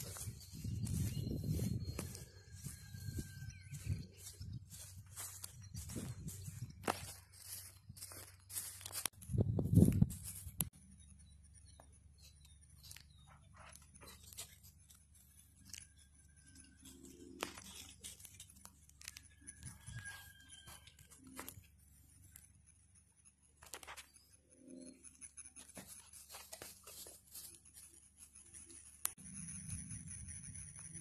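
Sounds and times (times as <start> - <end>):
faint clicks and rustles: 0.0 - 31.0.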